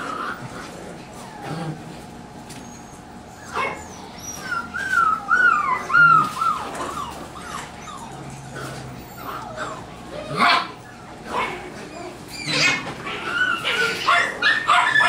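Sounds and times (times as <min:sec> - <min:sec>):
puppies whining: 0:00.0 - 0:15.0
puppy yelp: 0:02.5 - 0:15.0.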